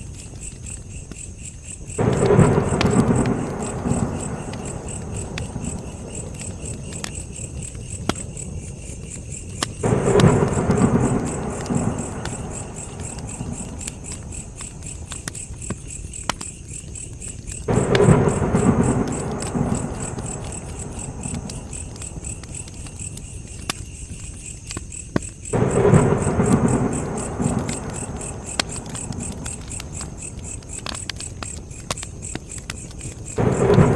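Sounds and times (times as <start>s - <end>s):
campfire crackling and popping: 0.0s - 33.9s
crickets chirping: 0.0s - 33.9s
distant thunder rumbling: 1.9s - 15.8s, 17.6s - 23.9s, 25.5s - 33.9s.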